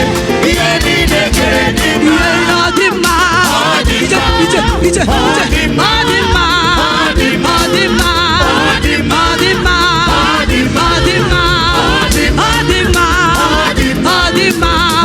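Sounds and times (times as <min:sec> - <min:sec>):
band playing with a beat: 0:00.0 - 0:15.0
choir singing: 0:00.0 - 0:15.0.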